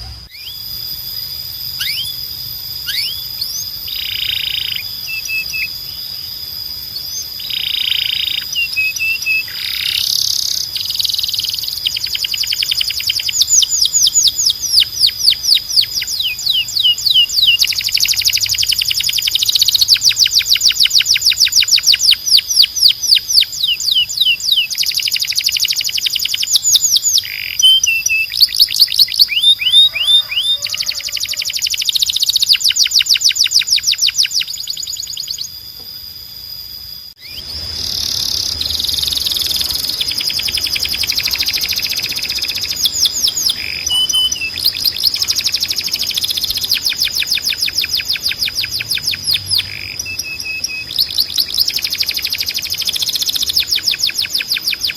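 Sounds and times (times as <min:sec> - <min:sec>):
canary singing trills: 0:00.0 - 0:36.0, 0:37.1 - 0:54.9.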